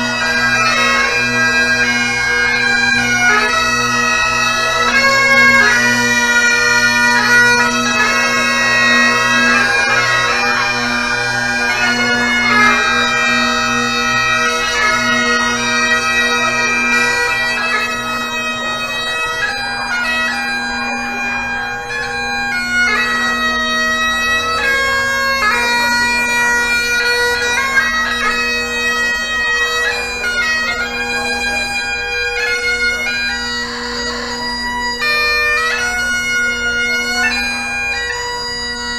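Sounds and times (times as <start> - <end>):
bagpipes playing a tune: 0.0 - 38.9.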